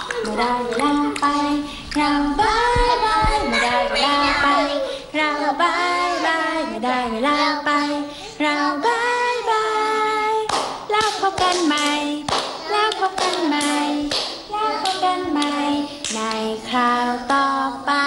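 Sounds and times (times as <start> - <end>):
woman and children singing: 0.0 - 18.0.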